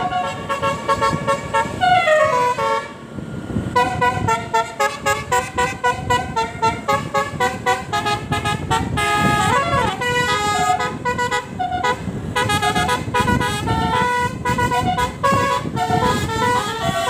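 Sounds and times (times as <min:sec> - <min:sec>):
bus horn playing a tune: 0:00.0 - 0:17.0.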